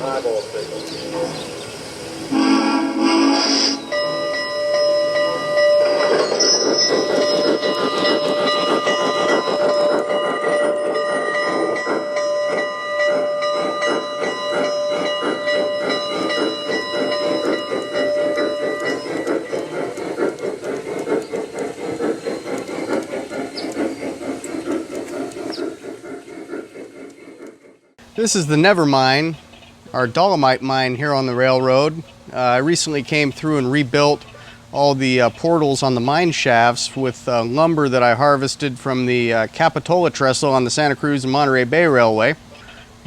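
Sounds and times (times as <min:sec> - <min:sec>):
model steam locomotive chuffing: 0:00.0 - 0:43.0.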